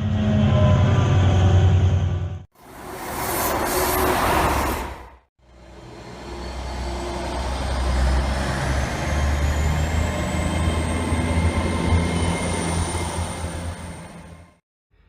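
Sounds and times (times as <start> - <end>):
train engine rumble and whine: 0.0 - 14.6.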